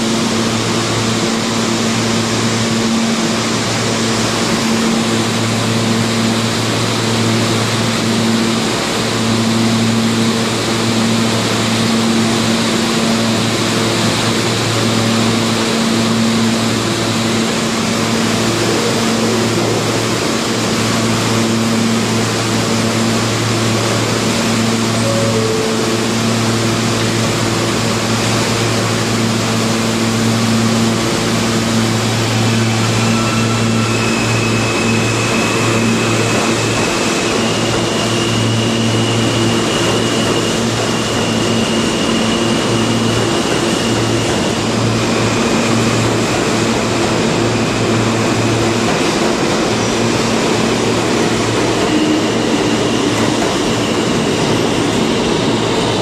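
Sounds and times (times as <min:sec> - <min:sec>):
high whine of train: 0:00.0 - 0:56.0
train electrical hum: 0:00.0 - 0:56.0
train rumble and rattle: 0:00.0 - 0:56.0.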